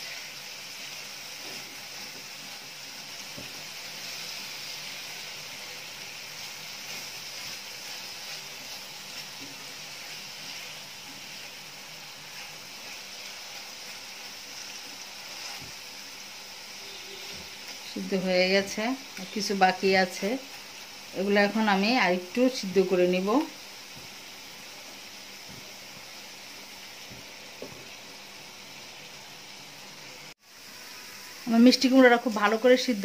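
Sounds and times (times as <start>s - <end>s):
pumpkin sizzling in a pan: 0.0s - 33.0s.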